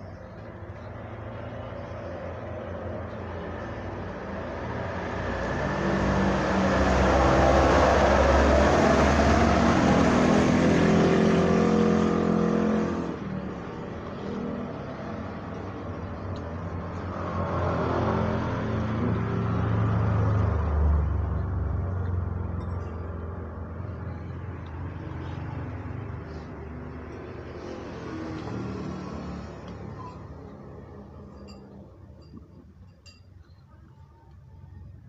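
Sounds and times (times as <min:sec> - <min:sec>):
vehicles passing on road: 0:00.0 - 0:35.0.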